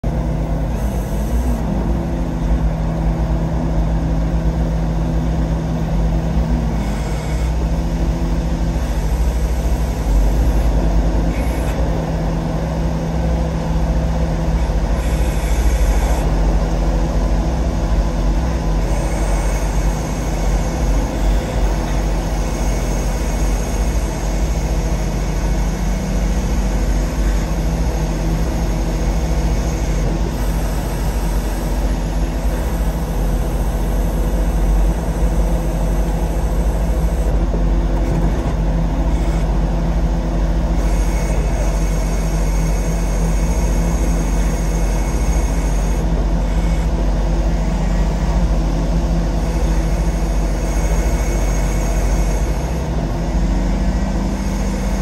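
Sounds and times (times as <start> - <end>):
diesel engine drone: 0.0 - 55.0.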